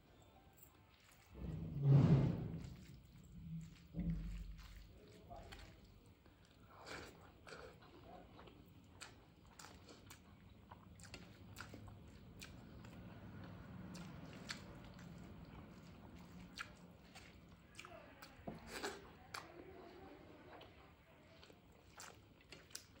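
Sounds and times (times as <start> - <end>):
person chewing food: 2.5 - 23.0.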